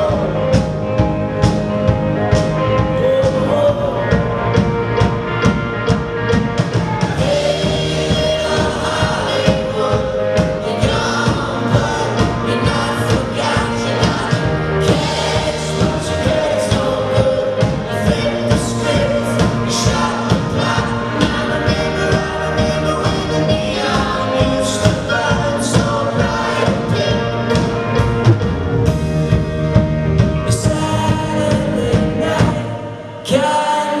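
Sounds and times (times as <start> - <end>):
person singing: 0.0 - 1.4, 2.1 - 4.7, 6.8 - 28.0, 30.4 - 34.0
steady drum beat: 0.0 - 32.8
live rock band playing: 0.0 - 34.0.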